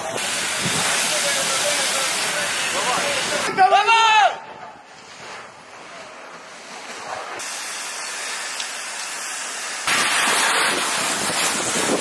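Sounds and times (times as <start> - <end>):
fire hose spraying water: 0.0 - 4.2, 4.8 - 12.0.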